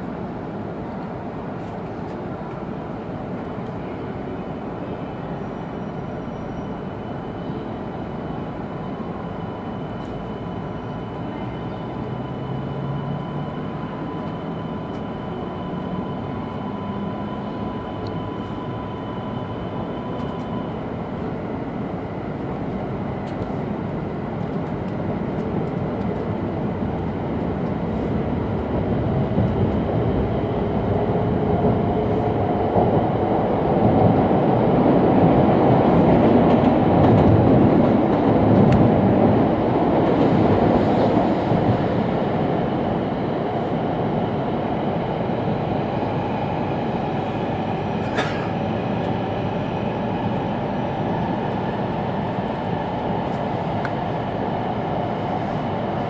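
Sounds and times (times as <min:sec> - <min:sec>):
train running rumble and rush: 0:00.0 - 0:56.0.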